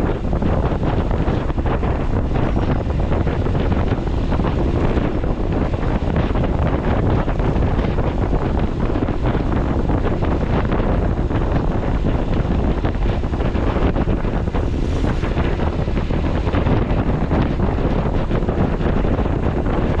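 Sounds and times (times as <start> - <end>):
vehicle and road noise: 0.0 - 20.0
wind buffeting microphone: 0.0 - 20.0.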